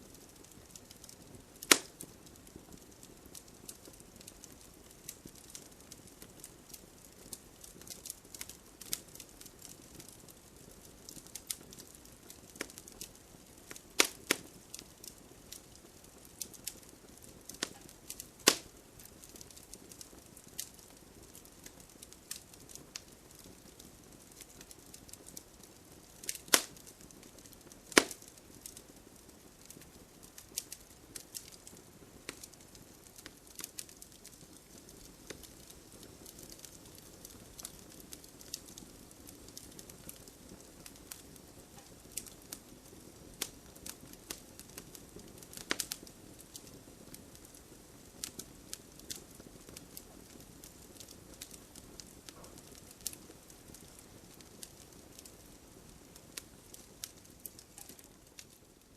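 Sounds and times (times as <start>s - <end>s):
campfire crackling: 0.0s - 58.9s
loud fire snaps: 0.0s - 58.9s.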